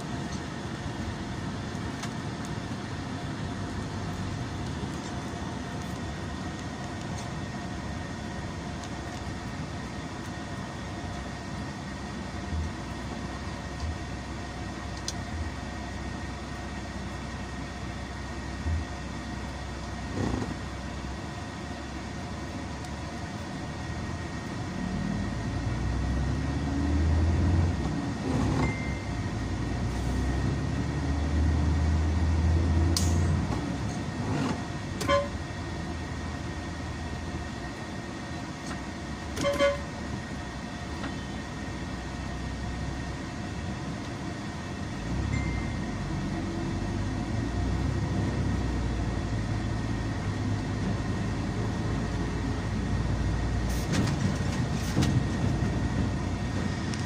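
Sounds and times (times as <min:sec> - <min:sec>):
bus engine rumble: 0:00.0 - 0:57.0
road noise: 0:00.0 - 0:57.0.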